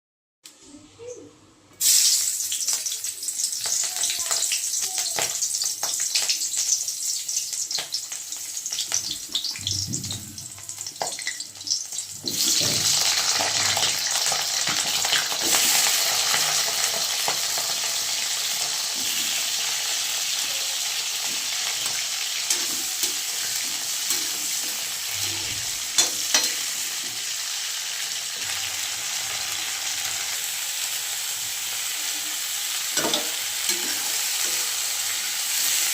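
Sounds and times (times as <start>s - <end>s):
food sizzling in hot oil: 1.8s - 35.9s.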